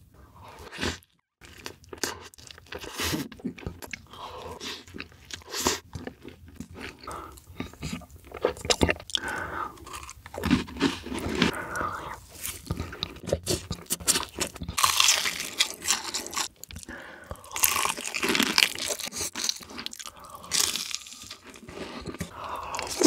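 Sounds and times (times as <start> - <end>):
man chewing food: 0.4 - 23.0.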